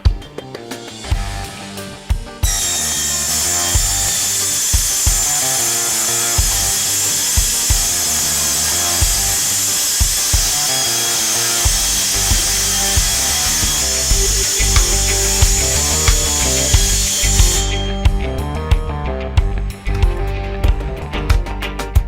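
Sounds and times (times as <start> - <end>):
background music with thumping beat: 0.0 - 8.3, 9.0 - 10.8, 11.6 - 22.0
circular saw whining: 0.4 - 19.9.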